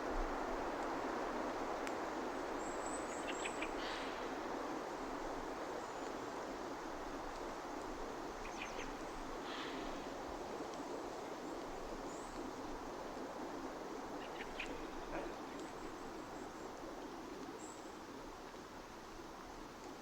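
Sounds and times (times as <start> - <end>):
outdoor background rush: 0.0 - 20.0.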